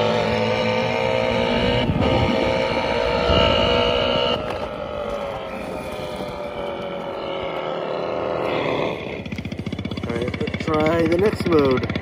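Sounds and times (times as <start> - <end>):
synthetic engine sound: 0.0 - 12.0.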